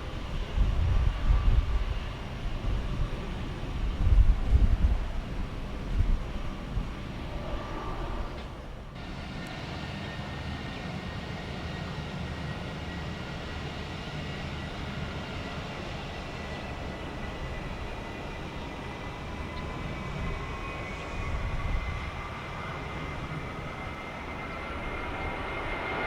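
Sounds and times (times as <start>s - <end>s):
distant jet engines rumbling: 0.0s - 26.0s
wind buffeting microphone: 0.0s - 26.0s.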